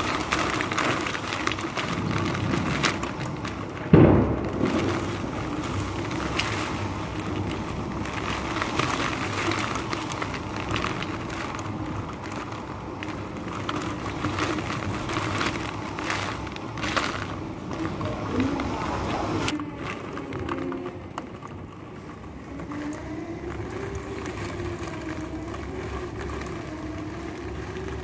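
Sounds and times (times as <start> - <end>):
heavy rain: 0.0 - 28.0
wind buffeting microphone: 0.0 - 28.0.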